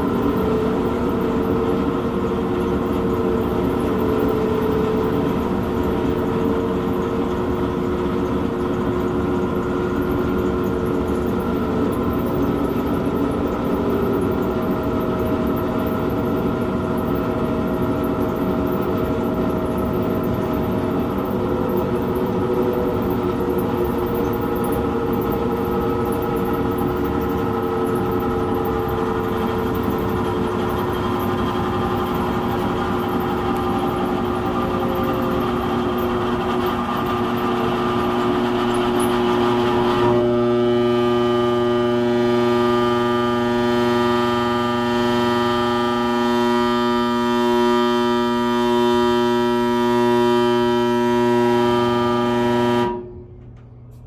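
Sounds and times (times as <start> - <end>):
fan humming whine: 0.0 - 54.0.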